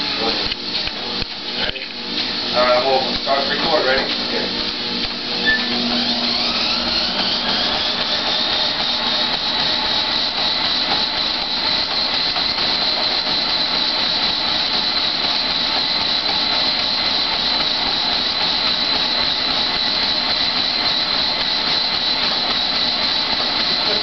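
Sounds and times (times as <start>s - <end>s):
treadmill motor whine and belt: 0.0s - 24.0s
running footsteps pounding: 2.1s - 24.0s.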